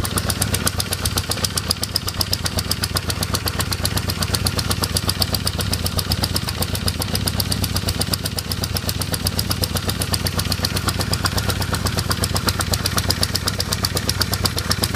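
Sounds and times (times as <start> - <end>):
motorcycle engine idling: 0.0 - 14.9
rapid engine ticking: 0.0 - 14.9.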